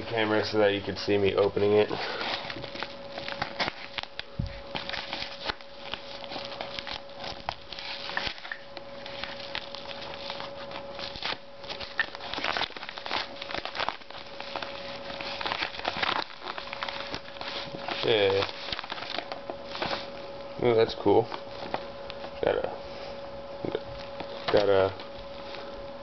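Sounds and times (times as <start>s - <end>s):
package crinkling and tearing: 0.7s - 22.6s, 23.6s - 25.8s.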